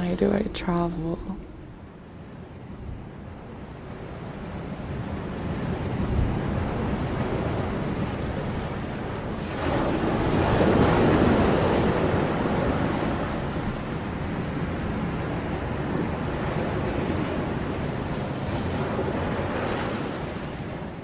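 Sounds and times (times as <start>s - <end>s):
wind: 0.0s - 21.0s
ocean surf on beach: 1.0s - 21.0s.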